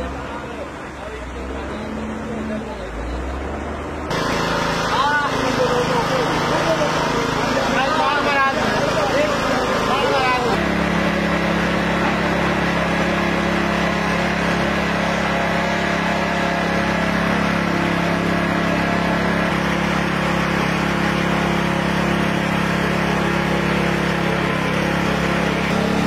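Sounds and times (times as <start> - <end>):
engine humming steadily: 0.0 - 26.0.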